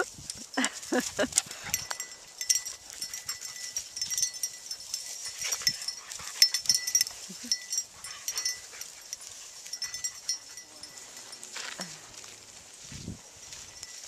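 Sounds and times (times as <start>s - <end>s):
collar tags jingling: 0.0s - 14.0s
dogs rustling in dry grass: 0.0s - 14.0s.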